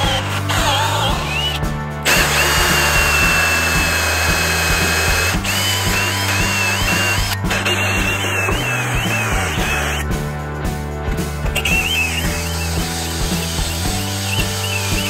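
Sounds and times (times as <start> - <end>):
cordless drill boring through wood: 0.0 - 10.1, 11.7 - 15.0.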